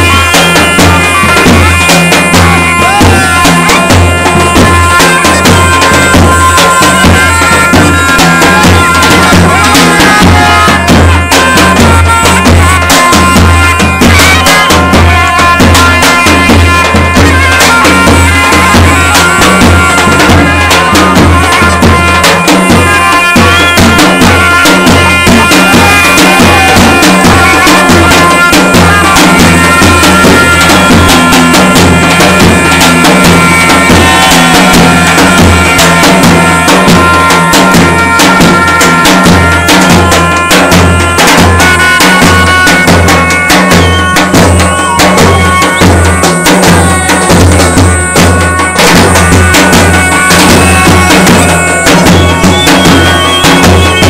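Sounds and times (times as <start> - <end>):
bass drum beat: 0.0 - 54.0
reedy shawm melody: 0.0 - 54.0.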